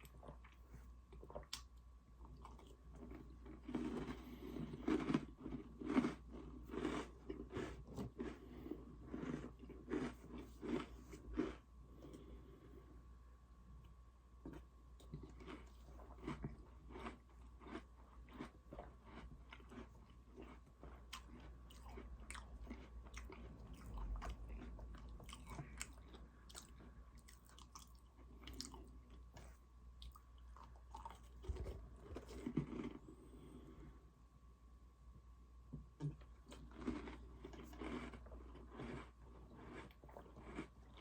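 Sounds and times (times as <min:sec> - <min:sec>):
chewing crisp cookies: 0:00.0 - 0:13.0, 0:13.8 - 0:34.0, 0:36.0 - 0:41.0.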